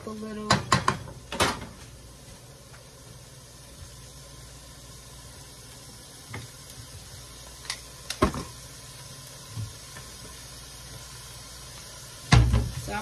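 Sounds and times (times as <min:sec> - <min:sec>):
water boiling on gas burner: 0:00.0 - 0:13.0.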